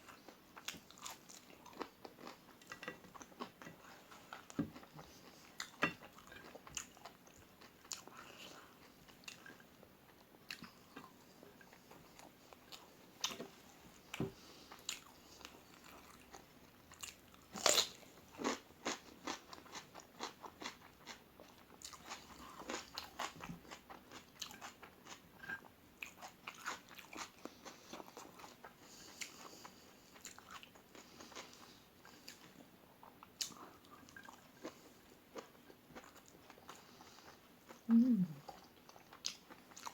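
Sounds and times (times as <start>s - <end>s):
chewing crispy food: 0.0s - 39.9s.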